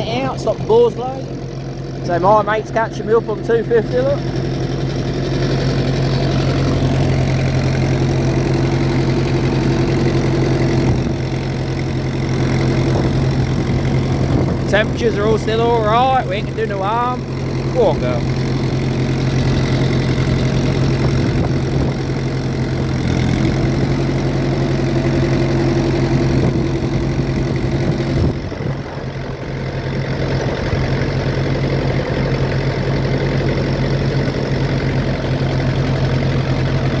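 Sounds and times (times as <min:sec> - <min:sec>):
tractor engine under load: 0:00.0 - 0:37.0.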